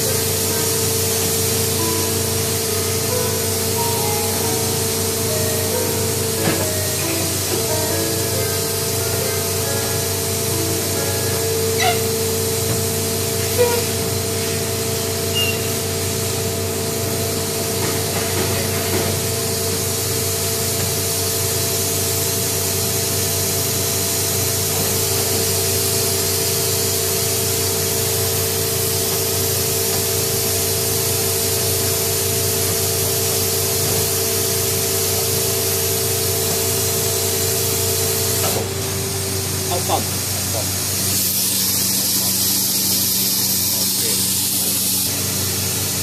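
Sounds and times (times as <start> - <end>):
machine whine and hum: 0.0 - 46.0.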